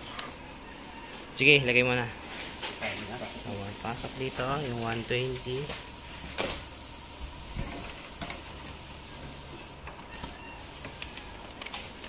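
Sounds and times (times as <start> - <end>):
steady background hiss: 0.4 - 12.0.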